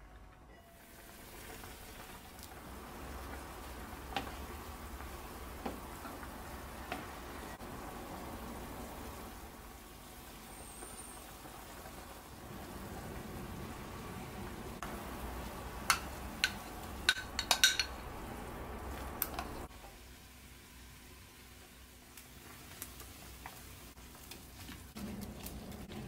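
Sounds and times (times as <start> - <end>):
pot boiling and bubbling: 0.0 - 26.0.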